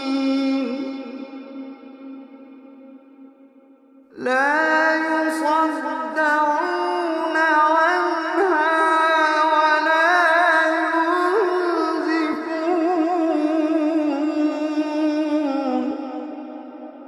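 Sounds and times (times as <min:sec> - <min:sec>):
person reciting melodically: 0:00.0 - 0:02.8, 0:04.2 - 0:17.0.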